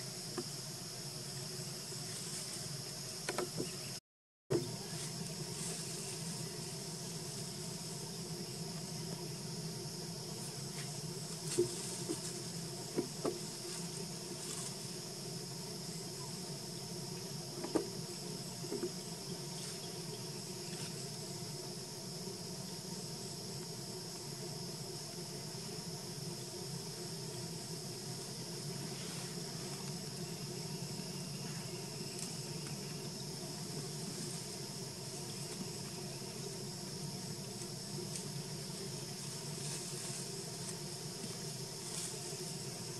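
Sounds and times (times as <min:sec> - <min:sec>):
insect chorus buzzing: 0:00.0 - 0:42.9.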